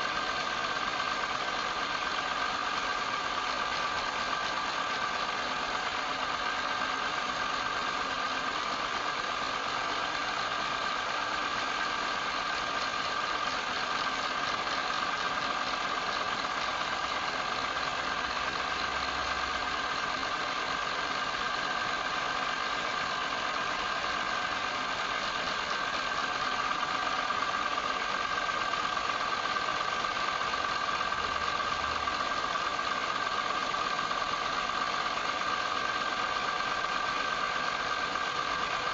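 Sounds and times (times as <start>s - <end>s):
wood lathe motor whine: 0.0s - 38.9s.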